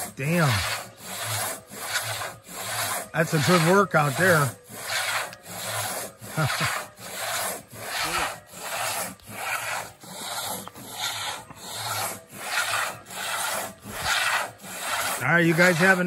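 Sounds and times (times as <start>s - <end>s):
crosscut saw rasping through wood: 0.0s - 16.0s.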